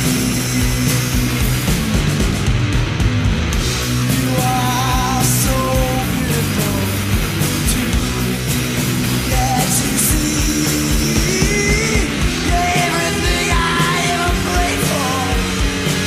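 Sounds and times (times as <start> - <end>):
distorted electric guitars: 0.0 - 16.0
driving drums: 0.0 - 16.0.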